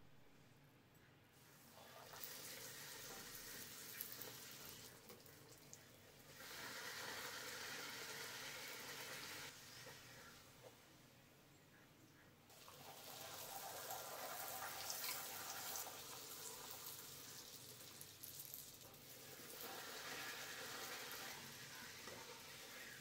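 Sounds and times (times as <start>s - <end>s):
hot oil sizzling: 1.7s - 9.9s, 12.5s - 23.0s.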